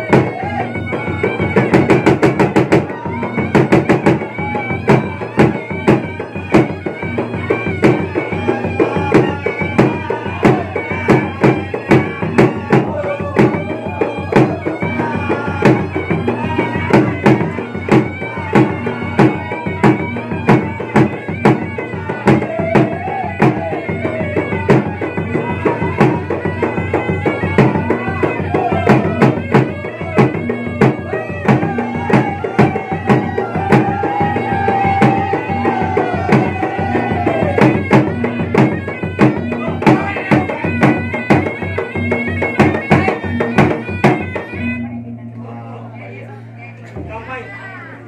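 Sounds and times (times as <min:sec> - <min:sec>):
drums beaten fast: 0:00.0 - 0:44.9
wind instrument wavering melody: 0:00.0 - 0:46.6.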